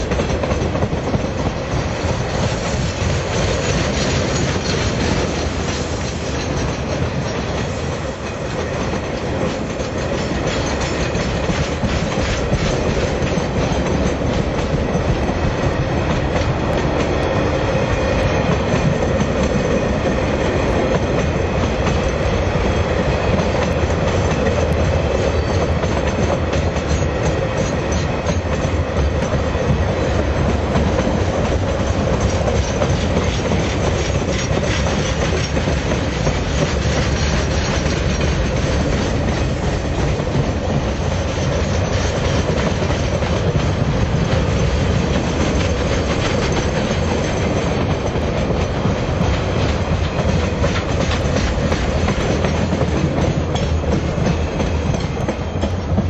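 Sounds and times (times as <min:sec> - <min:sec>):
train wheels on rails: 0:00.0 - 0:56.0
wheels clacking over rail joints: 0:00.0 - 0:56.0.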